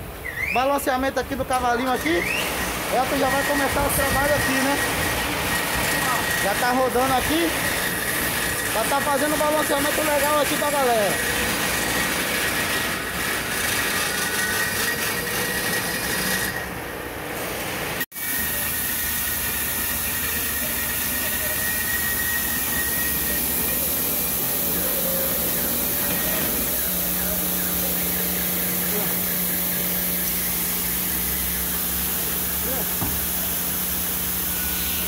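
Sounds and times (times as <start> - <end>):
wheel whirring with high whine: 1.4 - 17.3, 17.9 - 35.0.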